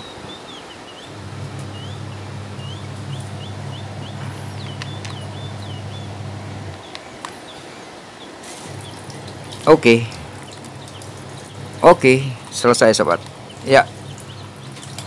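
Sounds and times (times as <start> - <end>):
small birds chirping: 0.0 - 15.0
low hum: 1.0 - 6.9, 8.6 - 15.0.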